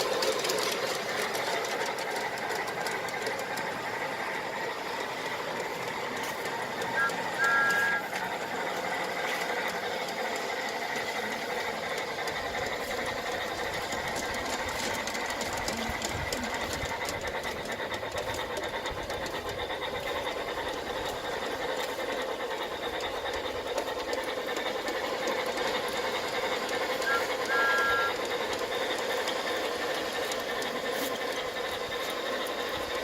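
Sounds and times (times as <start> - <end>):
model train motor whirring: 0.0 - 33.0
rapid fine clicking: 0.0 - 33.0.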